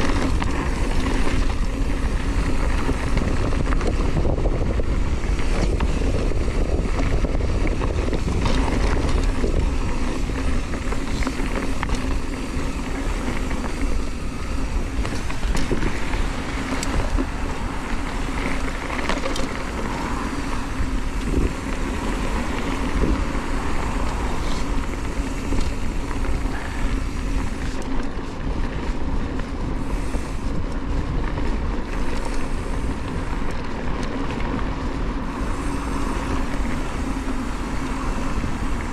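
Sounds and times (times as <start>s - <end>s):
bike knocks and rattles: 0.0s - 38.9s
bike tyre and drivetrain noise: 0.0s - 38.9s
wind rumble on microphone: 0.0s - 38.9s.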